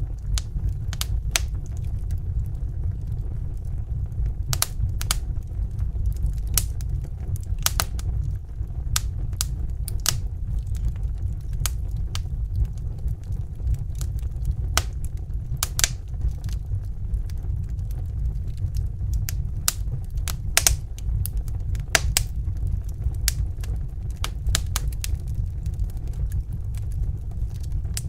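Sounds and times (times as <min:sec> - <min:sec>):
low rumble of burning: 0:00.0 - 0:28.0
wood fire crackling: 0:00.0 - 0:28.0.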